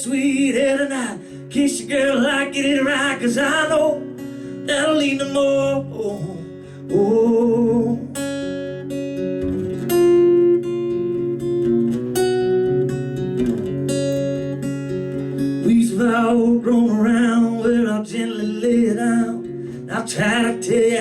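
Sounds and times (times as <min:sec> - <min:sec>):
acoustic guitar strummed and picked: 0:00.0 - 0:21.0.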